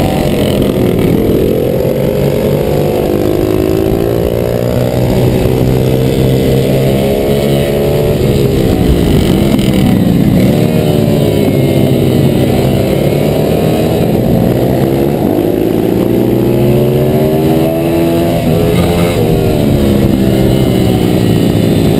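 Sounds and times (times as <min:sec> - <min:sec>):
motorbike engine racing: 0:00.0 - 0:21.9.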